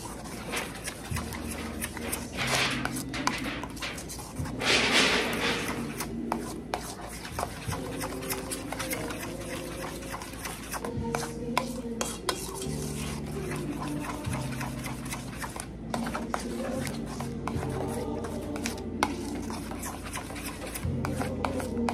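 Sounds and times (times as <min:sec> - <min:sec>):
whisk scraping metal bowl: 0:00.0 - 0:21.9.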